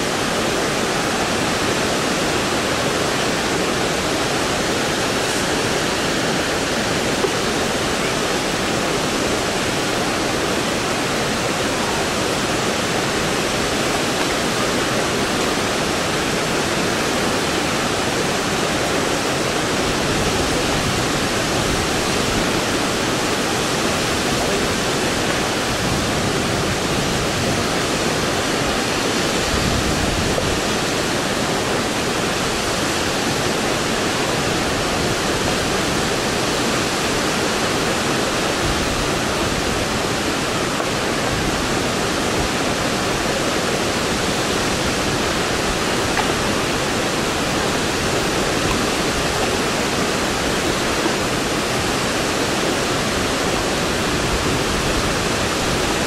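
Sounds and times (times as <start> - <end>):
waterfall roar: 0.0 - 56.0.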